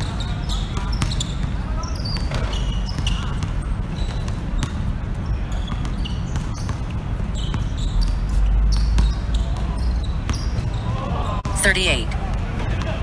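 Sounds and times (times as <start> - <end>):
basketball bouncing: 0.0 - 10.8
sneaker squeaks: 0.0 - 11.6.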